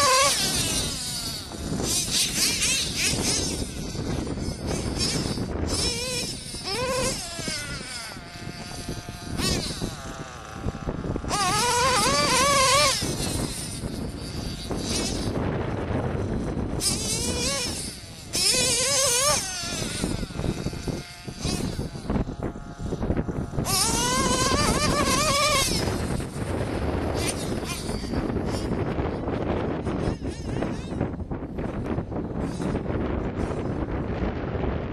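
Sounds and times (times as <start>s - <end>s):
small nitro engine buzzing: 0.0s - 34.9s.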